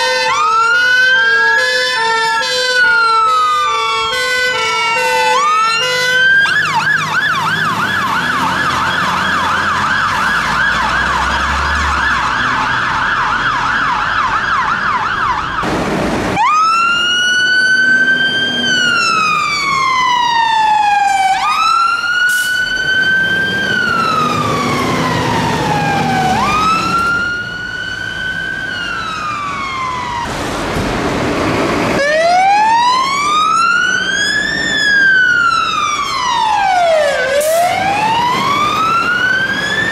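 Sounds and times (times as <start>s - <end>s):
fire engine siren wail: 0.0s - 39.9s
fire engine siren yelp: 0.0s - 39.9s.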